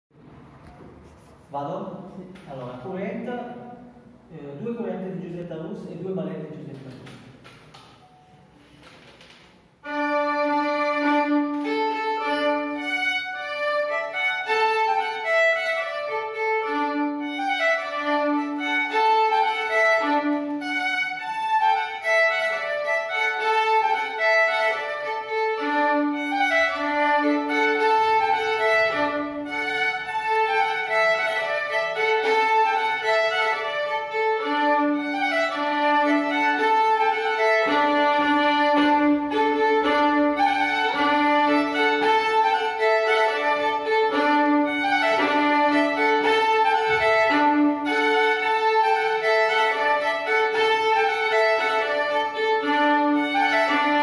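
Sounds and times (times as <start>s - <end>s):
solo violin dance tune: 9.7s - 54.0s.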